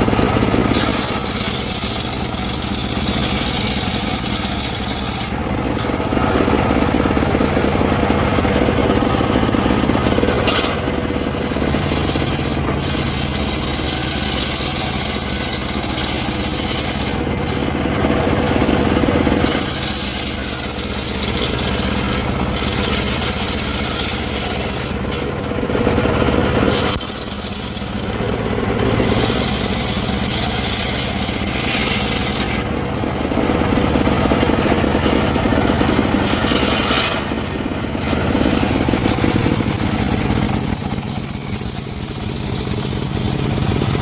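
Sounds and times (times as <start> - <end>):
engine-powered saw running: 0.0 - 44.0
saw cutting through wood: 0.0 - 44.0.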